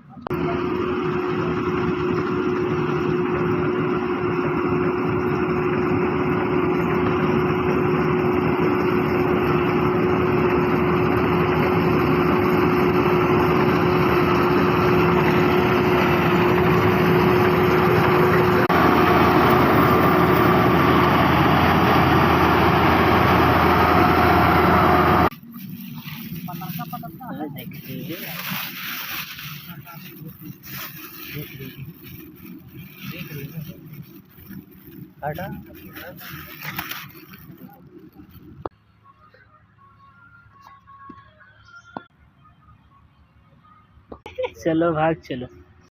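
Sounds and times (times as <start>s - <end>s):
small engine running: 0.0s - 38.7s.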